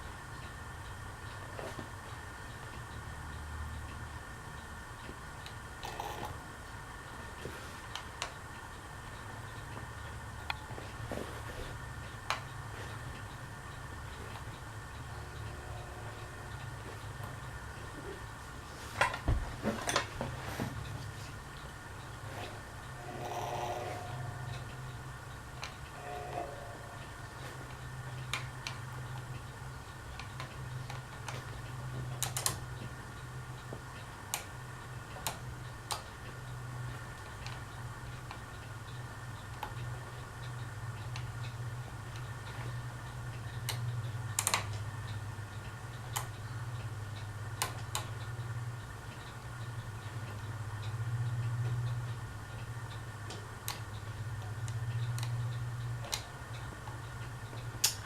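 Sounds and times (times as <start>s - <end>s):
ceiling fan motor humming: 0.0s - 58.0s.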